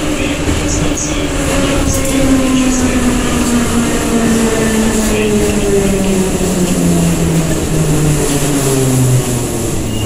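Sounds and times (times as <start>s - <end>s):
metro train rumbling hum: 0.0s - 10.0s.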